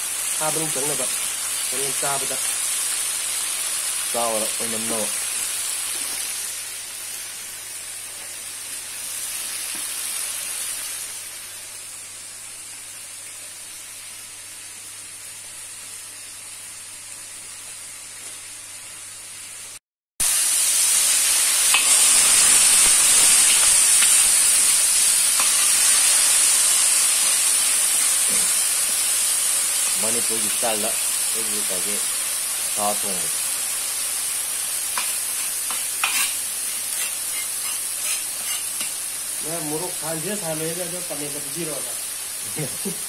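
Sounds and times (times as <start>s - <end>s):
meat sizzling in oil: 0.0s - 43.0s.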